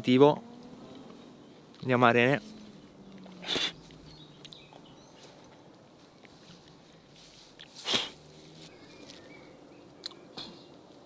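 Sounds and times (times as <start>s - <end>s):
leaves rustling: 0.4s - 10.0s.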